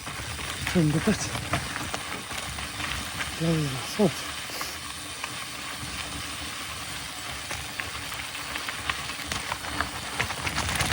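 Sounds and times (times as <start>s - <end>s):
bike clicks and rattles: 0.0s - 10.9s
bike tyre noise: 0.0s - 10.9s.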